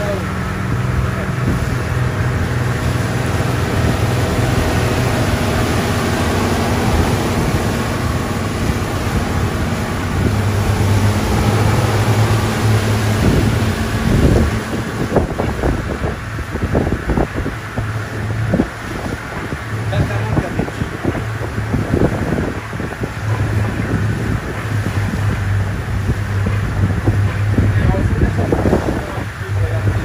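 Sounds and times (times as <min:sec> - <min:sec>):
vehicle engine humming: 0:00.0 - 0:30.0
wind on microphone: 0:00.0 - 0:30.0.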